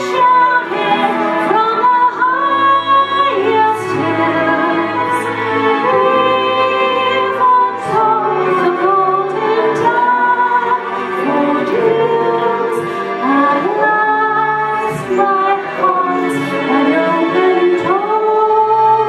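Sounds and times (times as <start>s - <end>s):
instrumental accompaniment: 0.0s - 19.0s.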